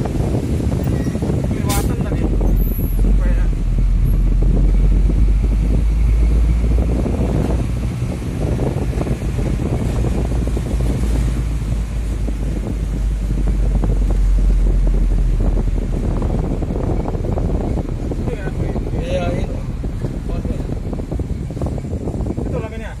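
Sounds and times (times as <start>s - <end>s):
truck diesel engine rumbling: 0.0s - 23.0s
wind buffeting microphone: 0.0s - 23.0s.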